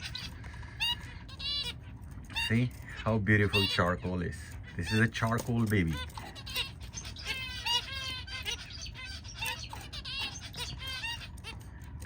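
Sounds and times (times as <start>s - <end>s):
finches chirping: 0.0s - 12.0s
low steady hum: 0.0s - 12.0s.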